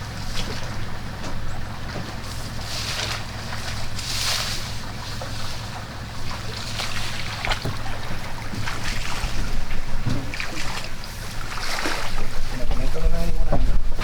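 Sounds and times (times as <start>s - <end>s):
boat motor running: 0.0s - 14.0s
water sounds: 0.0s - 14.0s.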